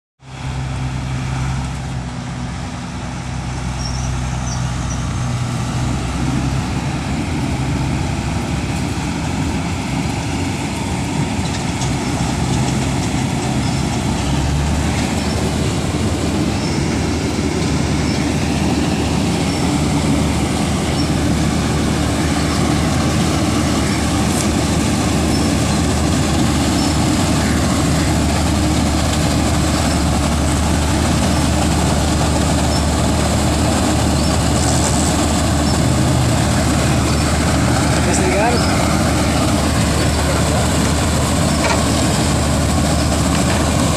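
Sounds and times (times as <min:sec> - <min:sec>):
combine harvester running: 0:00.2 - 0:43.9.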